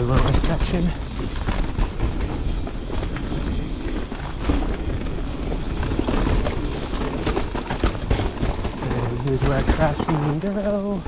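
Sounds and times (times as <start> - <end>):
bike chain and frame rattling: 0.0 - 11.0
bike tyres rolling over dirt: 0.0 - 11.0
wind rumble on microphone: 0.0 - 11.0.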